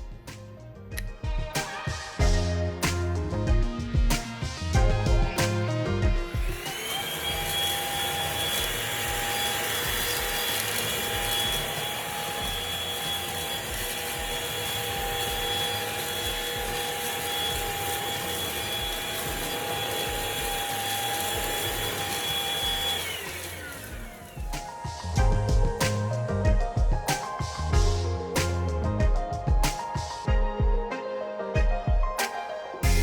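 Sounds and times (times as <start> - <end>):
vacuum cleaner motor whining: 0.9 - 33.0.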